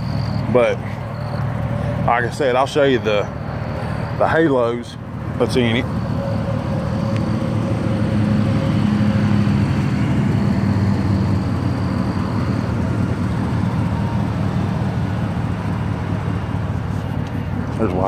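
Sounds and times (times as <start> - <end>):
pickup engine idling: 0.0 - 18.0.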